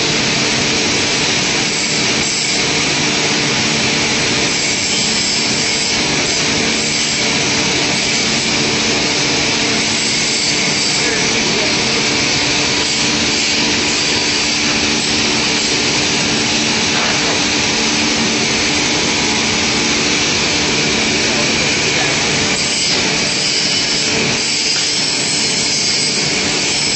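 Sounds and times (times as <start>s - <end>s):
woodworking machine motor whir: 0.0s - 26.9s.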